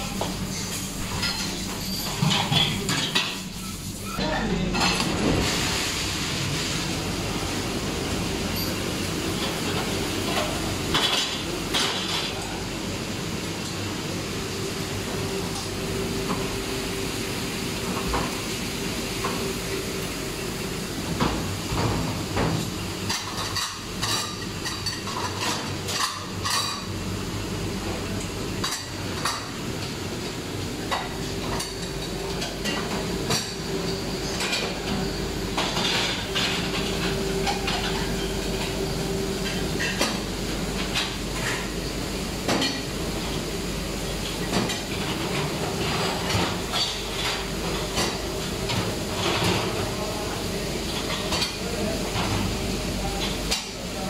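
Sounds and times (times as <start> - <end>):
pots and pans clanking in racks: 0.0 - 6.0, 6.9 - 13.9, 17.7 - 20.1, 21.0 - 54.0
dishwasher hum: 0.0 - 54.0.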